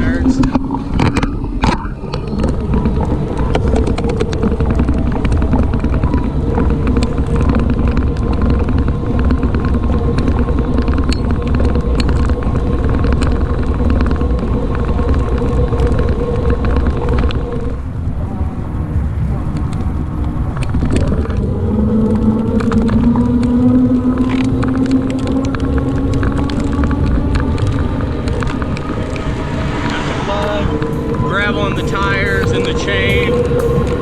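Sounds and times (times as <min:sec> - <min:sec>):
motor whine: 0:00.0 - 0:34.0
wind and tyres on road: 0:00.0 - 0:34.0.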